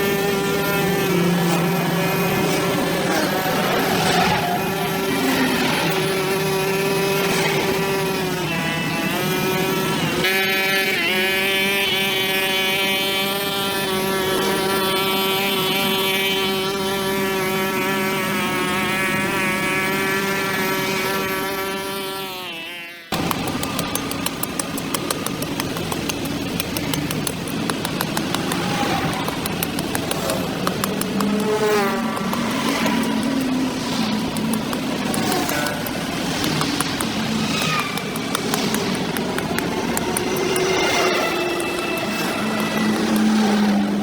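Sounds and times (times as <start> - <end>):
brush cutter engine whining: 0.0 - 21.8, 23.1 - 44.0.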